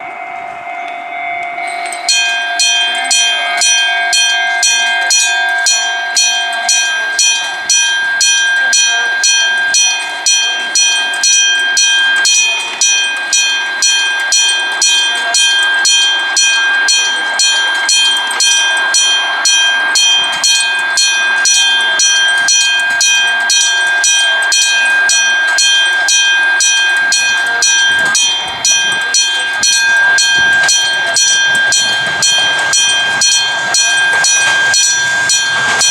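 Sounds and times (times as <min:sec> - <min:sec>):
level crossing bell ringing: 0:00.0 - 0:35.9.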